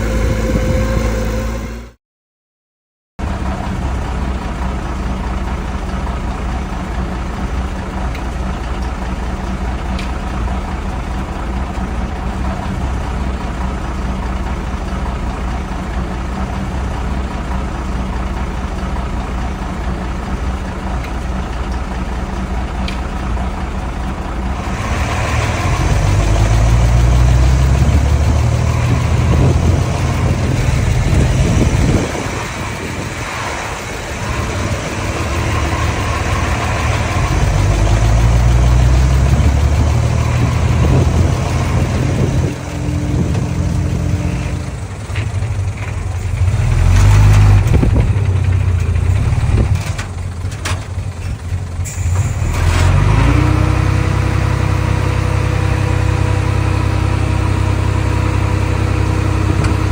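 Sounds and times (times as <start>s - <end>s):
diesel engine running: 0.0s - 2.0s, 3.2s - 59.9s.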